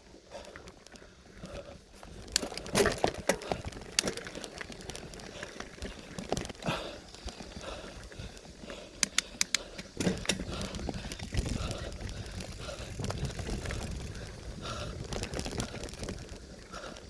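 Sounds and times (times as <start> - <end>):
bicycle tyres and frame rumbling: 0.0 - 17.0.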